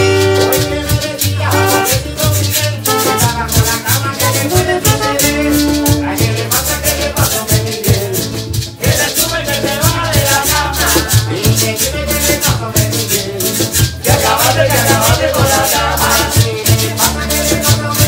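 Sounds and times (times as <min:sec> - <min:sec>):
live cumbia band playing: 0:00.0 - 0:18.0
maracas and shaker rattle: 0:00.0 - 0:18.0.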